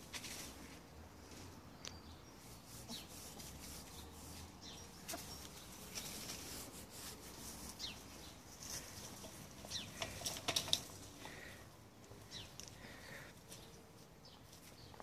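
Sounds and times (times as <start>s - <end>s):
rustling in leaves and undergrowth: 0.0s - 15.0s
small birds chirping: 0.2s - 15.0s.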